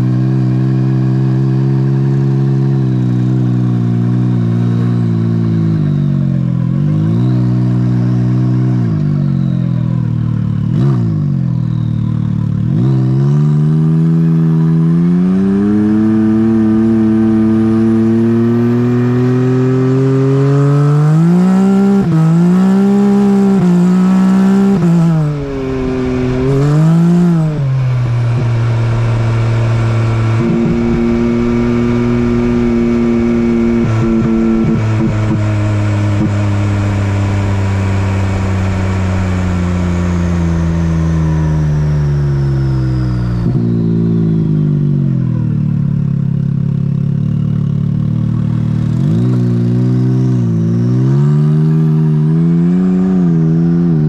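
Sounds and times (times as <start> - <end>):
utility vehicle engine revving: 0.0 - 54.0.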